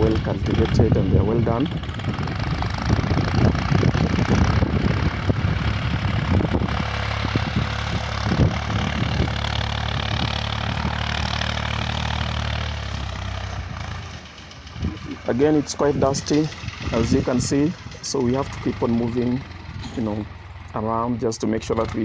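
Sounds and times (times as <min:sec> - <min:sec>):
tractor diesel engine: 0:00.0 - 0:22.0.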